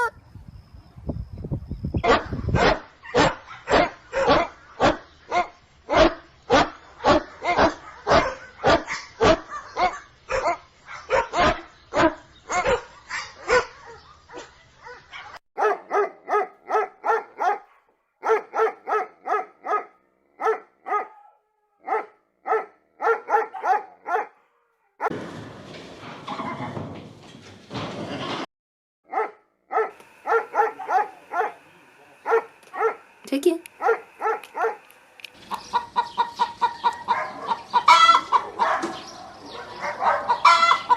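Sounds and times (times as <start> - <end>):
dog barking: 2.0 - 25.1, 29.1 - 31.6, 32.2 - 33.1, 33.8 - 34.9, 35.7 - 40.9.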